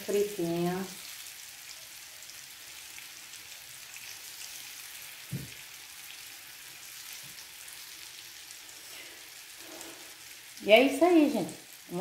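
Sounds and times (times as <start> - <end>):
food frying with crackling sizzle: 0.0 - 12.0.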